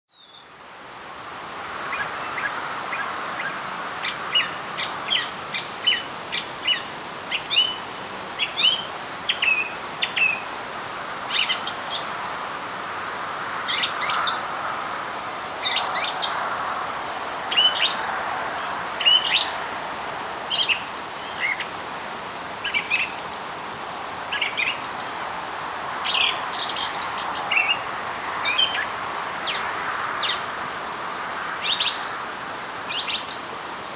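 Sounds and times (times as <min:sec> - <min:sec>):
songbirds singing: 0:00.1 - 0:00.5, 0:01.9 - 0:10.5, 0:11.2 - 0:12.6, 0:13.7 - 0:14.9, 0:15.6 - 0:21.8, 0:22.5 - 0:23.5, 0:24.2 - 0:25.4, 0:26.0 - 0:33.9
faint background hiss: 0:00.1 - 0:33.9.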